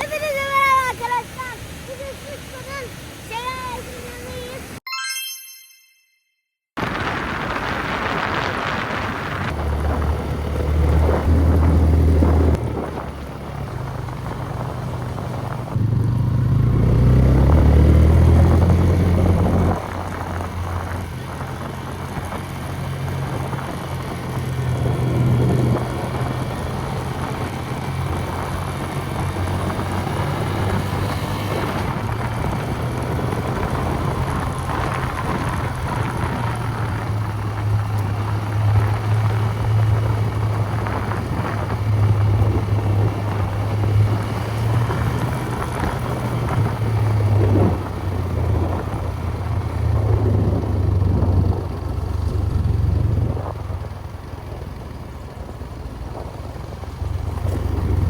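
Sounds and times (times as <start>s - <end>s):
road noise: 0.0s - 4.8s, 6.8s - 58.0s
vehicle engine humming: 6.8s - 58.0s.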